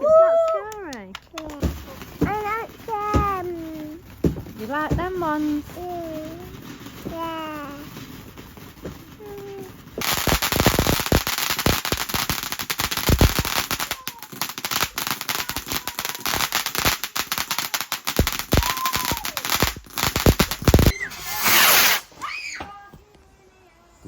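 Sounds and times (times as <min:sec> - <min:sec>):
fireworks crackling bangs: 0:00.0 - 0:22.9
firework hissing burst: 0:01.6 - 0:22.2.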